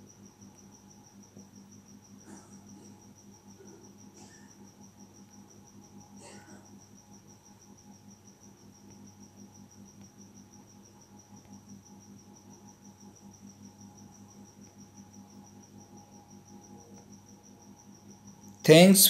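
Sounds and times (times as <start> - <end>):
cricket chirping: 0.0 - 19.0
low electrical hum: 0.0 - 19.0.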